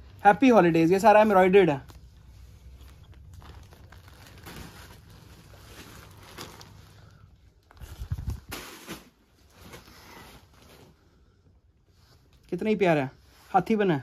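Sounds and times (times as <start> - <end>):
rustling: 1.1 - 12.4.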